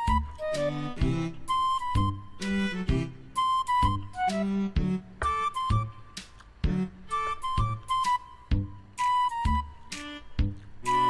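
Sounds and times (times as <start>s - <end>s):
low beats: 0.0s - 11.0s
melody of held notes: 0.0s - 11.0s.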